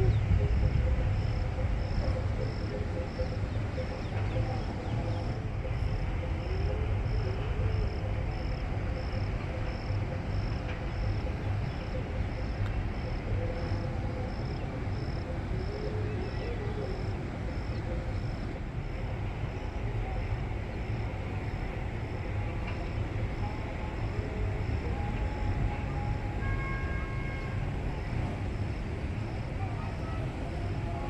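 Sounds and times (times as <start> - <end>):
insect chirping: 0.0 - 31.0
steady rain hiss: 0.0 - 31.0.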